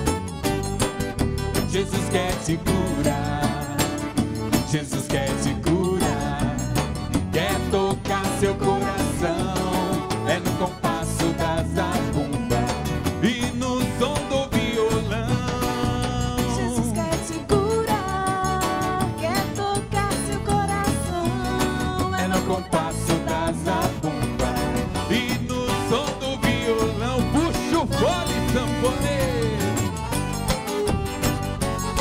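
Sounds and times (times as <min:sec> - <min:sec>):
accordion: 0:00.0 - 0:32.0
drum beating dance rhythm: 0:00.0 - 0:32.0.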